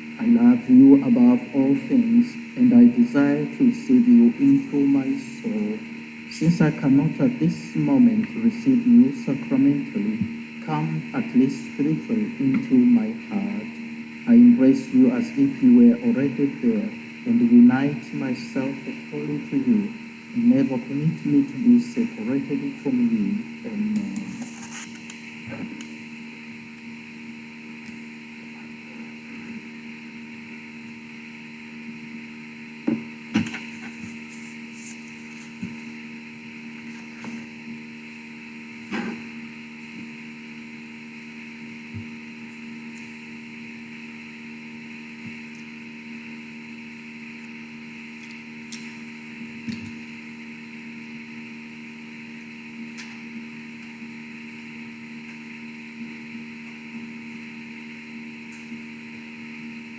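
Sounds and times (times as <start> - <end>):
electrical hum and hiss: 0.0 - 59.9.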